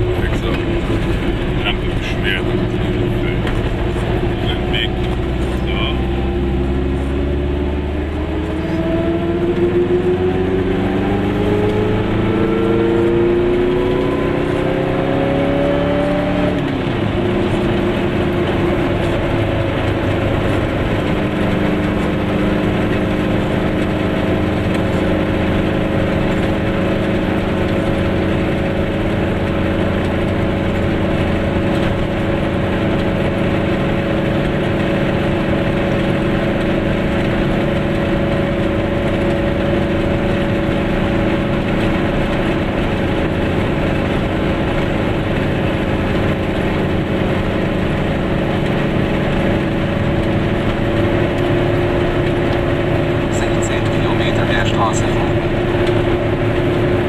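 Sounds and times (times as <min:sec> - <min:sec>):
road noise: 0:00.0 - 0:57.0
two-stroke car engine: 0:00.0 - 0:57.0.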